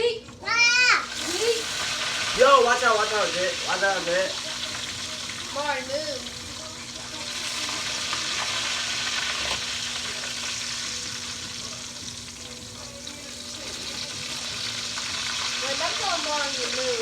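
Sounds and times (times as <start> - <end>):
chicken frying in hot oil: 0.5 - 17.0.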